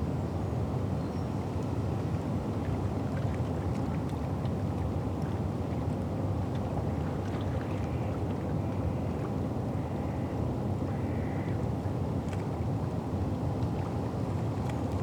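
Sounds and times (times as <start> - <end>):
distant river and boats: 0.0 - 15.0
wind: 0.0 - 15.0.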